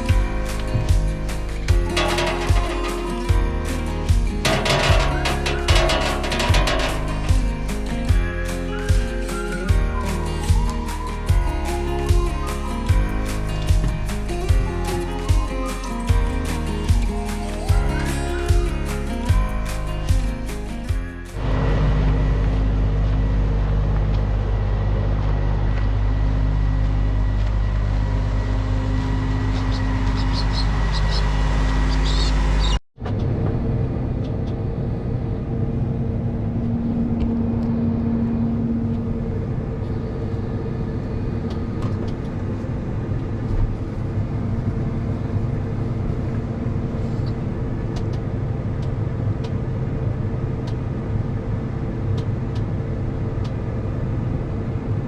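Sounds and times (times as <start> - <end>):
another engine running: 0.0 - 55.0
diesel engine running: 0.0 - 55.0.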